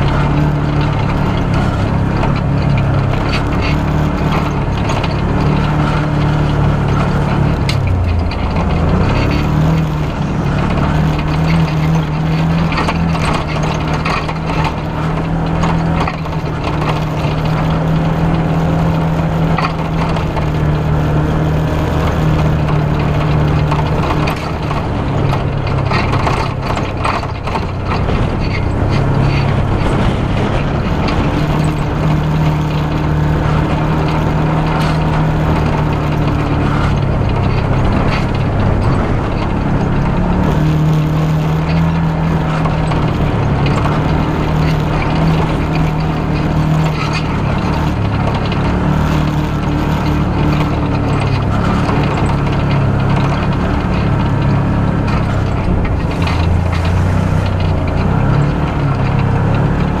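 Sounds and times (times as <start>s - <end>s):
knocks and rattles from bumps: 0.0s - 60.0s
off-road vehicle engine running: 0.0s - 60.0s.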